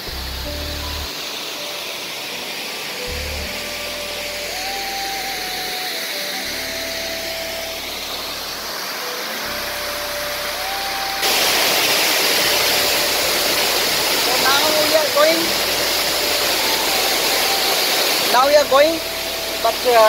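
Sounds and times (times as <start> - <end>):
slow melody of held notes: 0.0 - 20.0
waterfall rushing: 0.0 - 20.0.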